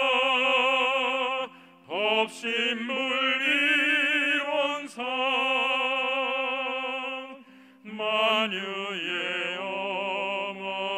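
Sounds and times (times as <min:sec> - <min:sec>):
person singing operatic hymn: 0:00.0 - 0:10.9.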